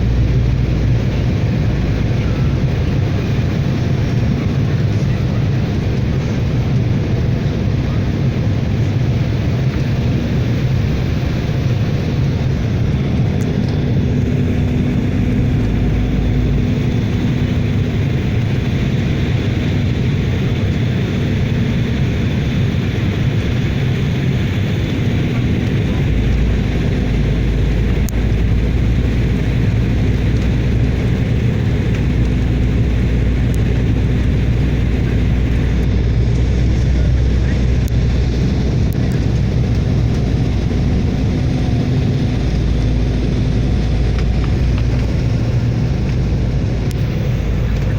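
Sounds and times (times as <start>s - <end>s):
propeller aircraft engine drone: 0.0s - 47.9s.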